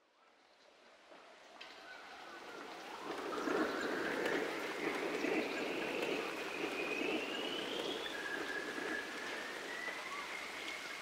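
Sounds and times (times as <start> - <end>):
rain patter: 0.7 - 11.0.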